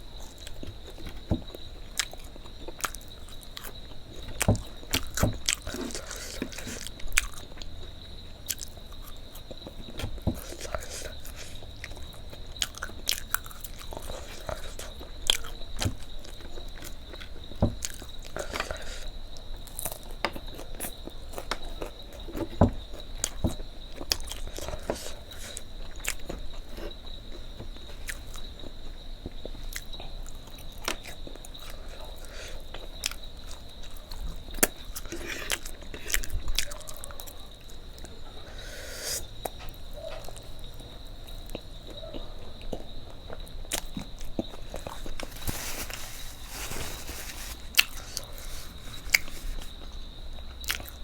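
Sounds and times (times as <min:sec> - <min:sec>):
person chewing food: 0:00.1 - 0:51.0.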